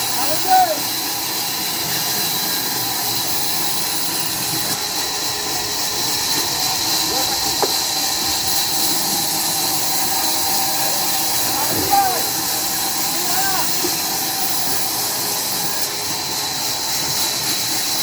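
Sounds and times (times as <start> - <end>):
steady hissing noise: 3.3 - 18.0.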